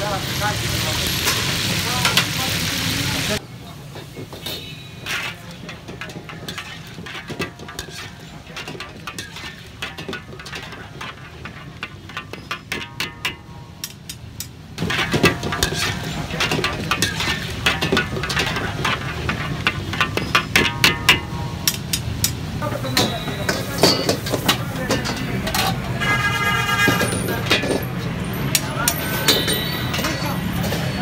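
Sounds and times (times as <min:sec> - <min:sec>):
metal spatula scraping a wok: 0:04.0 - 0:31.0.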